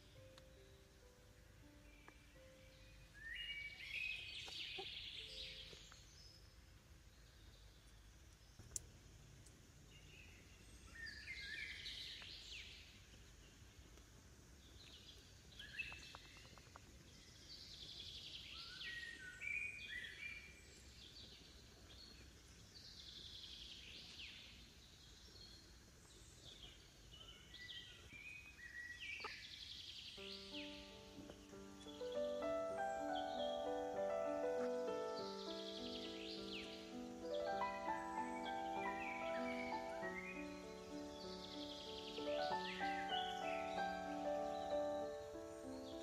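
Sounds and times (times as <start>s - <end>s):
faint birds chirping: 0.0s - 46.0s.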